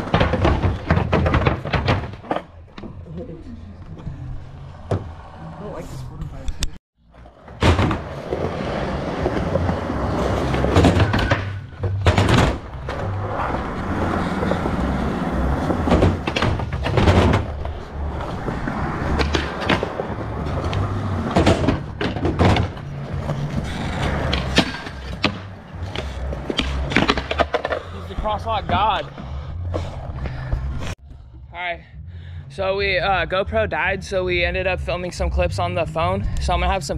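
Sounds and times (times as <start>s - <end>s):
skateboard wheels rolling on concrete: 0.0s - 3.1s, 3.9s - 31.0s.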